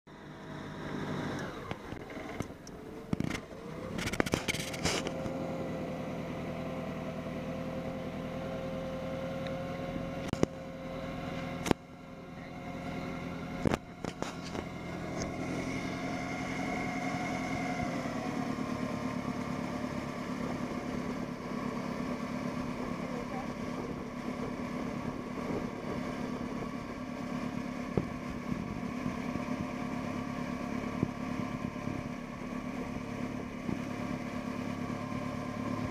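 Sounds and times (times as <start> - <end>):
boat motor running: 0.1 - 35.9.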